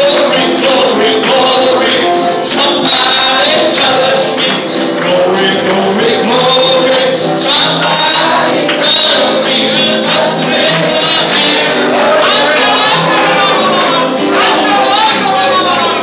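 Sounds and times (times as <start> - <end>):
sustained keyboard notes: 0.0 - 16.0
voices singing gospel: 0.0 - 16.0.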